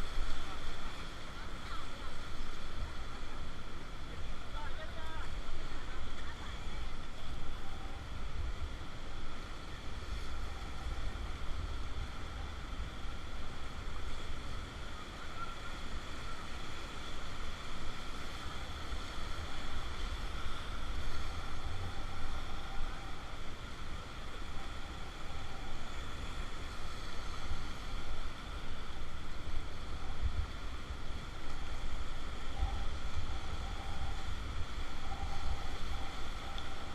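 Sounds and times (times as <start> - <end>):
rushing river water: 0.0 - 36.9
wind buffeting microphone: 0.0 - 36.9.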